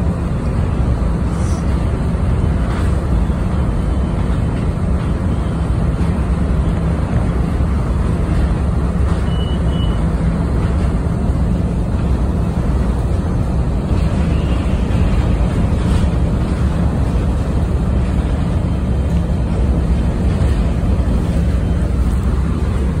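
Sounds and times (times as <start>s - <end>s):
passing train: 0.0s - 23.0s
train interior rumble: 0.0s - 23.0s.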